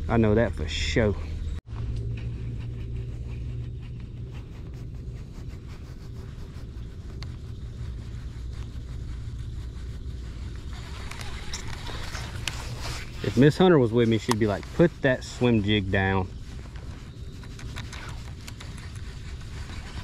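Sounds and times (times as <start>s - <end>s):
boat motor humming: 1.4s - 20.0s.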